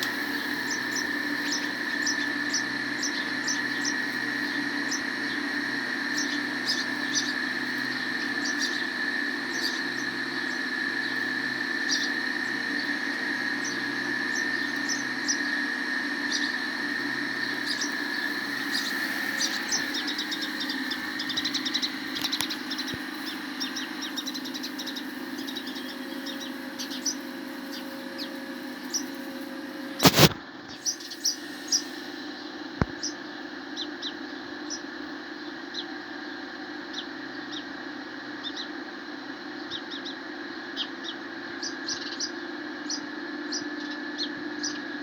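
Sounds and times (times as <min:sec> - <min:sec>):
sparrows chirping: 0:00.0 - 0:45.0
steady high-pitched whine: 0:00.0 - 0:45.0.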